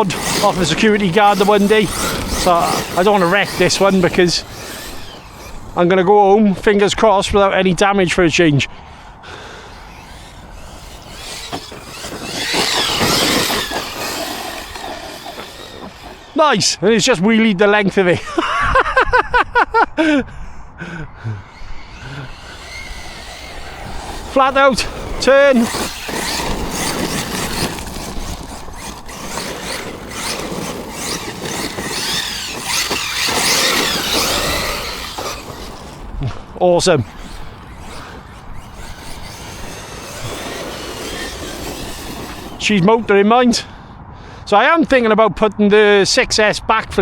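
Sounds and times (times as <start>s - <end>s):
toy truck motor whine: 0.0s - 7.0s, 8.7s - 17.1s, 21.1s - 43.9s
tyres on dirt and grass: 0.0s - 19.0s, 20.1s - 47.0s.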